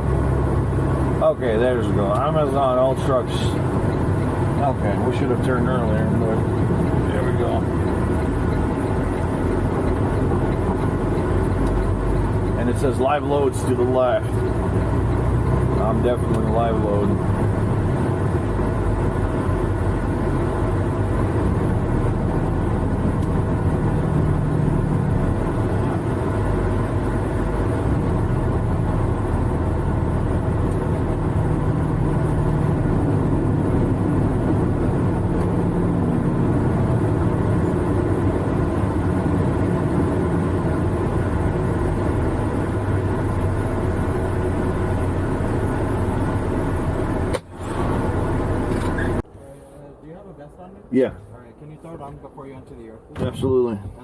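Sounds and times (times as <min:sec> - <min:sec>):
truck diesel engine droning: 0:00.0 - 0:49.6.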